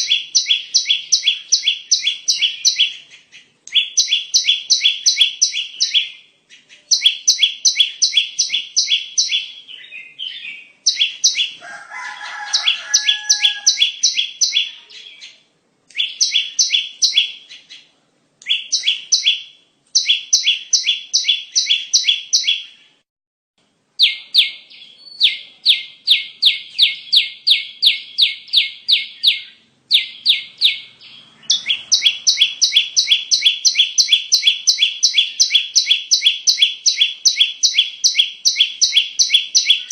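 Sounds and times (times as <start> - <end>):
bird sharp repeated chirps: 0.0 - 23.0, 24.0 - 39.9.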